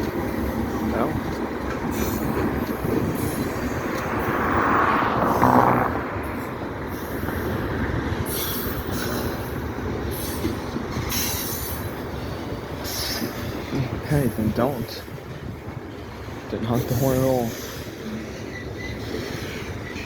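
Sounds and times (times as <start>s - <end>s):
freight train rumbling and rattling: 0.0s - 20.0s.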